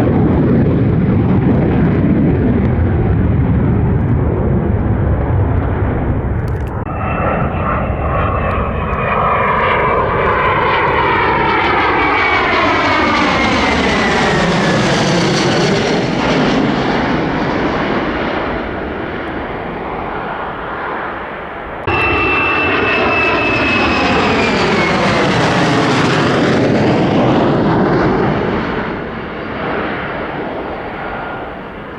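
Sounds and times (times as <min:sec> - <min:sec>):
jet passing with falling whine: 0:00.2 - 0:31.9.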